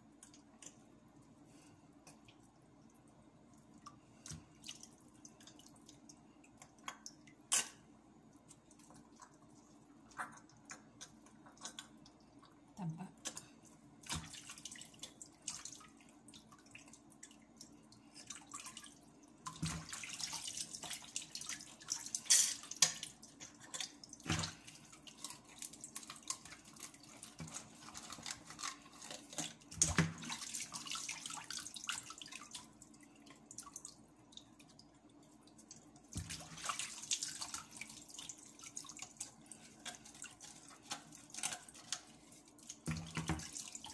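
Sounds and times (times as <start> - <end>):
water splashing in a sink: 2.0 - 43.9.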